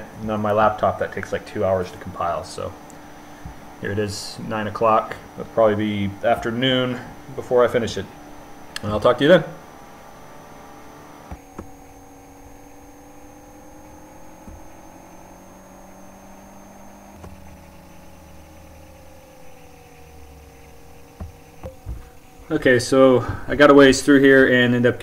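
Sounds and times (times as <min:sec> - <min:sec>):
electrical hum with high whine: 0:00.0 - 0:25.0.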